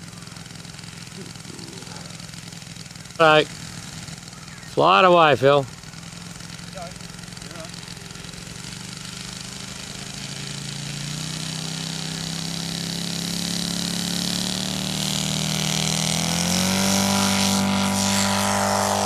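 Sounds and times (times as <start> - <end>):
model airplane engine running: 0.0 - 19.0.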